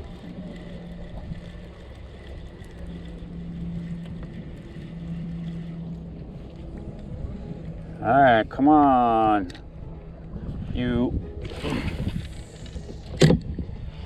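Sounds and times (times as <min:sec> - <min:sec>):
low steady hum: 0:00.0 - 0:14.0
wind rumbling on microphone: 0:00.0 - 0:14.0.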